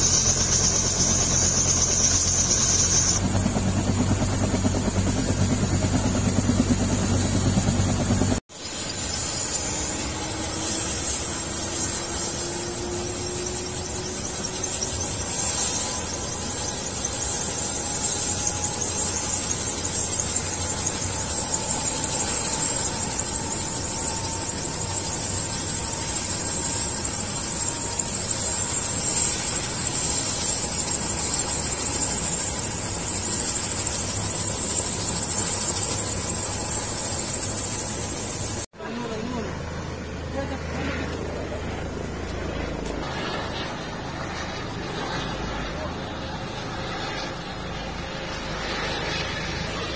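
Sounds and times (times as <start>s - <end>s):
constant rushing noise: 0.0s - 49.9s
helicopter turbine whine: 0.0s - 49.9s.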